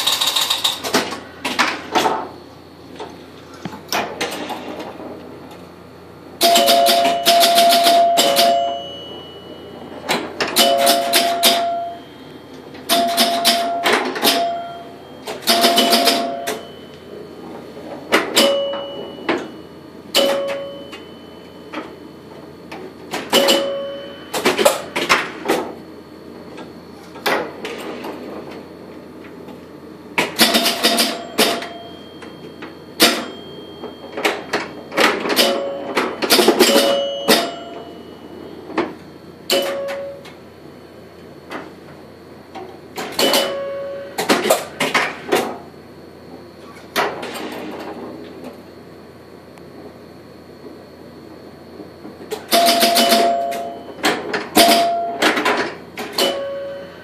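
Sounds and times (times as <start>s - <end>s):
pinball machine clacking: 0.0s - 2.4s, 3.9s - 5.7s, 6.4s - 25.8s, 26.5s - 40.4s, 41.4s - 45.7s, 46.7s - 48.6s, 52.0s - 57.0s.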